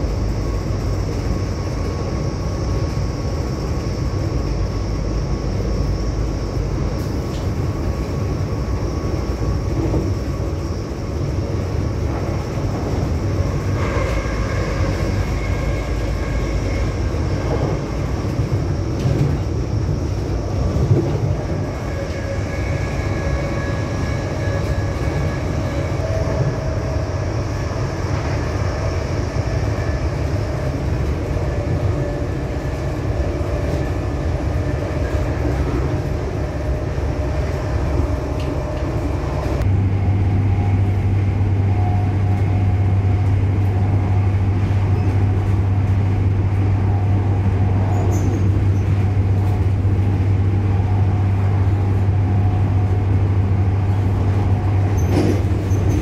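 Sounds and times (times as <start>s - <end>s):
train diesel engines droning: 0.0s - 56.0s.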